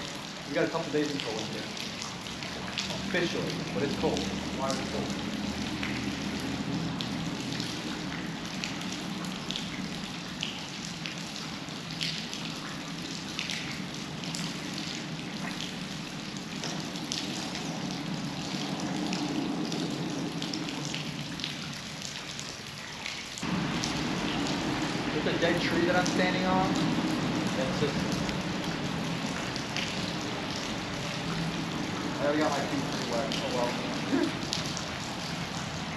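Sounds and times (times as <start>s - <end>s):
river water running: 0.0s - 35.9s
small splashes and drips: 0.0s - 35.9s.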